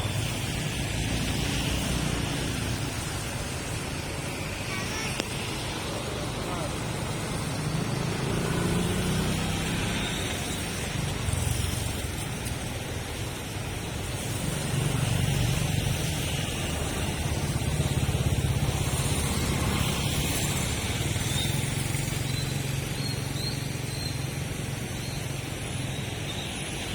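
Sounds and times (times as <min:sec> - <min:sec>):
cars and motorbikes passing: 0:00.0 - 0:26.9.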